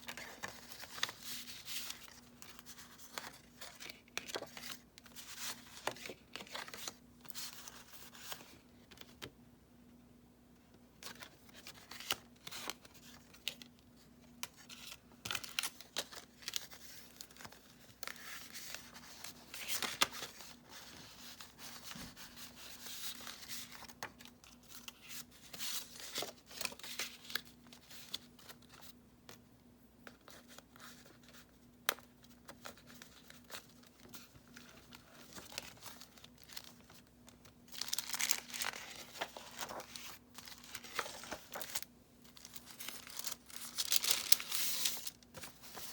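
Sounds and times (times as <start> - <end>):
paper pages rustling and crinkling: 0.0 - 9.3, 11.0 - 29.4, 30.0 - 45.9
faint steady hum: 0.0 - 45.9.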